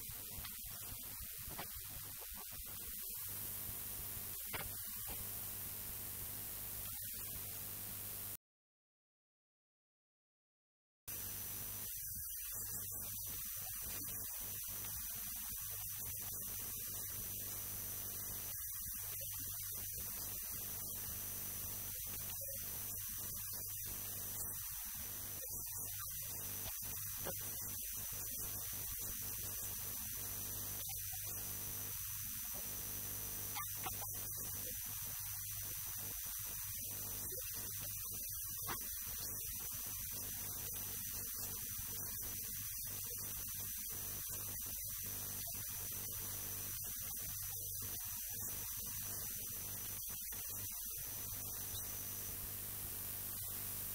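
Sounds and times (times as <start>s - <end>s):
hiss: 0.0s - 5.4s, 6.2s - 7.6s, 11.1s - 53.9s
thin high whine: 0.0s - 8.3s, 11.1s - 53.9s.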